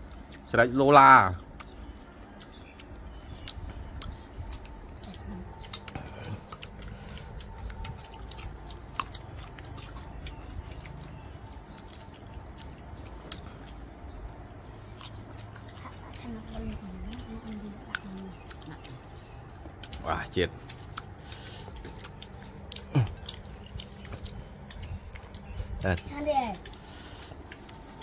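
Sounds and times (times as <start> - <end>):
chewing and crunching mango: 0.0 - 28.0
low background rumble: 0.0 - 28.0.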